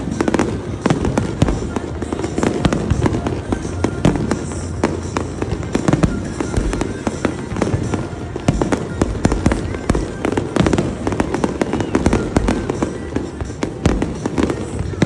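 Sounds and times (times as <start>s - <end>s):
fireworks bangs and crackles: 0.0s - 15.0s
low rumble of fireworks bursts: 0.0s - 15.0s.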